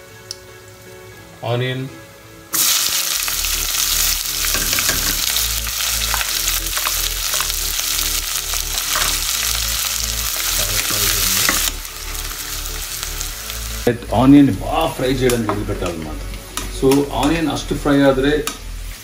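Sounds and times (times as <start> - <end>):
onions sizzling in hot oil: 2.5 - 19.0.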